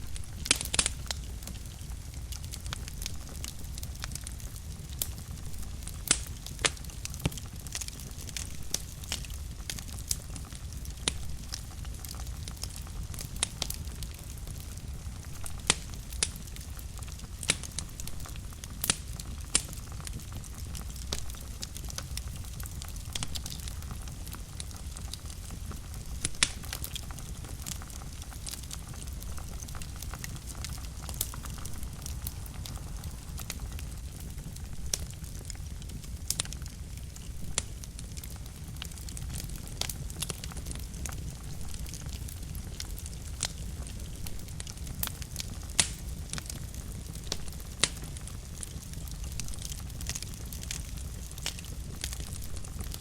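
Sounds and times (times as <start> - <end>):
fire crackles and pops: 0.0 - 53.0
wood fire flames rumbling: 0.0 - 53.0.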